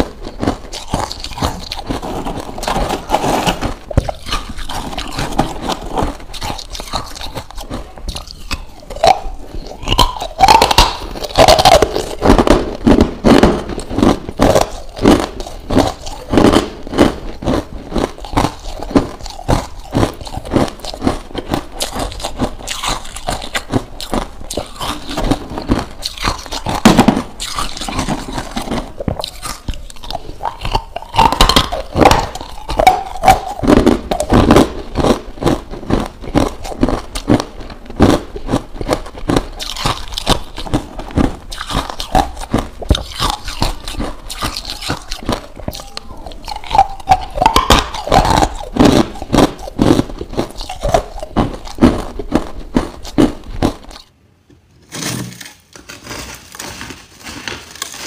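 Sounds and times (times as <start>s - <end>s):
ice crunched between teeth: 0.0s - 54.1s.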